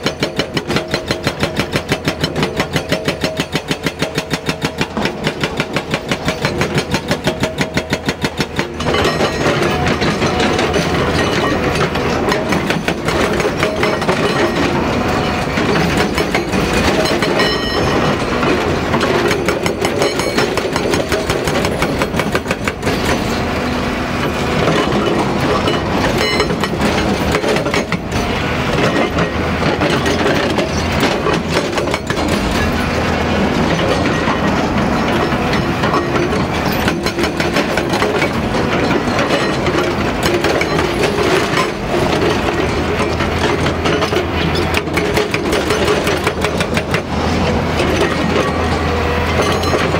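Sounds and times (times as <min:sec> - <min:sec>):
metallic clatter of rapid knocks: 0:00.0 - 0:23.6, 0:24.5 - 0:49.9
diesel engine running: 0:00.1 - 0:49.9.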